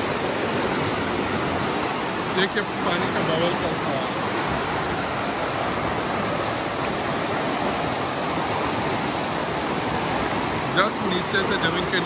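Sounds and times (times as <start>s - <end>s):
water churning and rushing: 0.0s - 12.0s.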